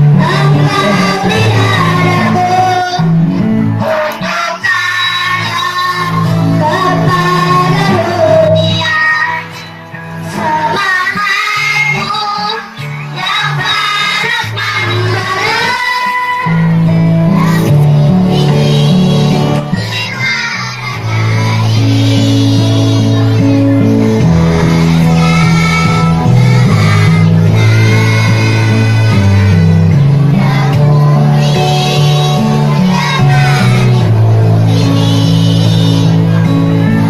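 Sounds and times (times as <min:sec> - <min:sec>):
instrumental accompaniment: 0:00.0 - 0:11.8, 0:12.8 - 0:37.0
children's choir singing: 0:00.0 - 0:37.0.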